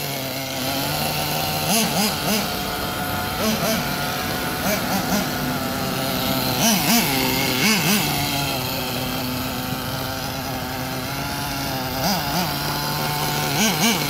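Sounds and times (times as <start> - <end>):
engine throttle blips: 0.0 - 14.0
rc car engine buzzing: 0.0 - 14.0.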